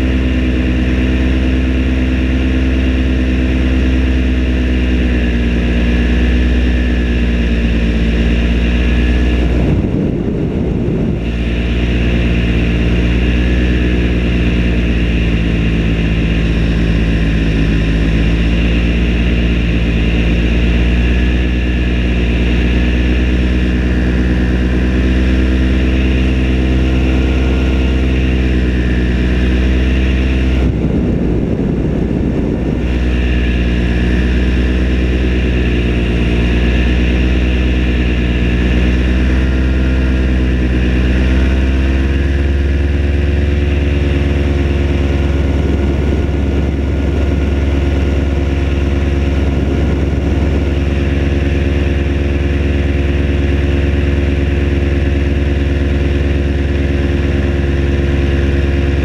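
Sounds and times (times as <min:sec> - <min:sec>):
paramotor engine droning: 0:00.0 - 0:59.0.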